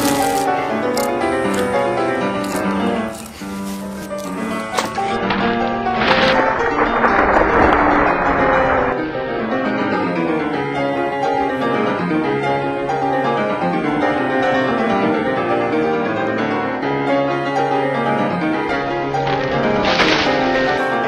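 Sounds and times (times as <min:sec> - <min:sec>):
classical piano music: 0:00.0 - 0:21.0.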